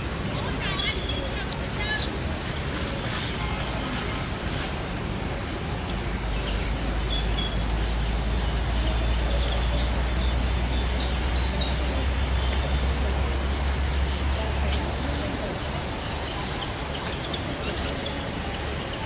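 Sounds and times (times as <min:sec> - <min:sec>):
birds chirping: 0:00.0 - 0:19.0
insect drone: 0:00.0 - 0:19.0.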